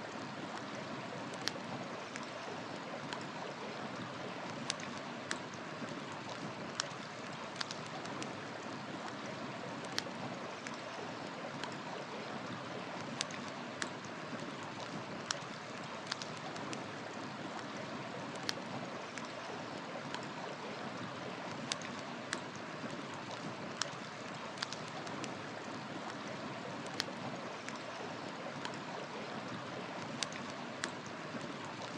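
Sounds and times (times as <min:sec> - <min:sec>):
campfire crackling: 0:00.0 - 0:31.9
river water flowing: 0:00.0 - 0:31.9.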